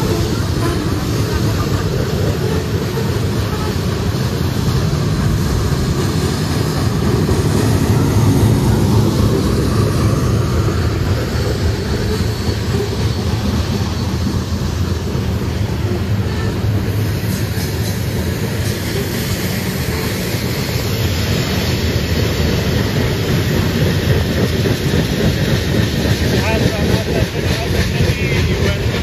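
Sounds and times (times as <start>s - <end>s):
train rumbling on tracks: 0.0s - 29.0s.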